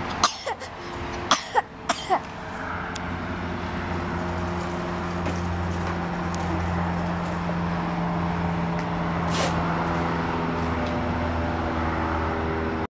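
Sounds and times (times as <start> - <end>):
low mechanical hum: 0.0 - 12.8.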